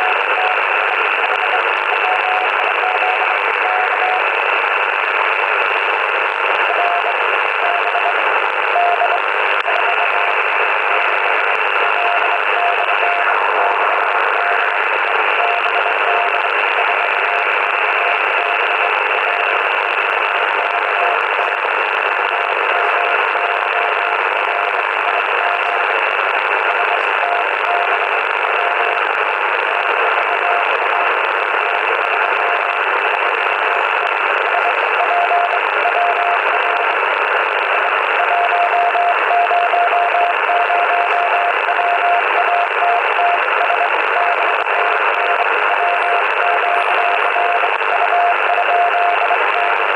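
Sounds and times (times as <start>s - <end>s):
morse code tone: 0.0s - 4.4s, 6.4s - 37.0s, 37.6s - 49.9s
radio band hiss: 0.0s - 49.9s.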